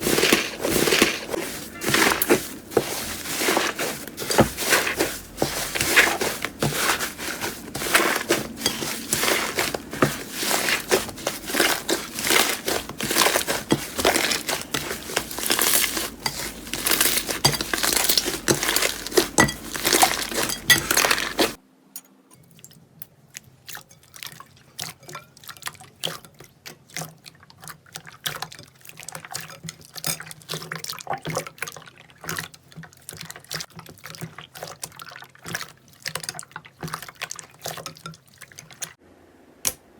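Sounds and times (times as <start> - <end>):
slime squelching by hand: 0.0 - 21.6, 22.5 - 39.0.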